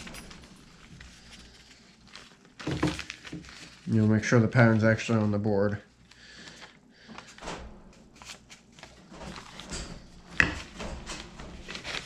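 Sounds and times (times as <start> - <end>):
paper rustling and sliding: 0.0 - 5.3, 6.1 - 12.0.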